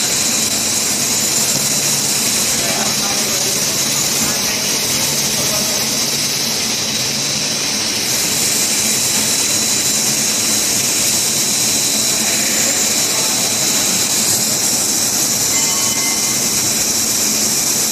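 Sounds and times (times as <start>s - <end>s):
powder mixer running: 0.0s - 17.9s.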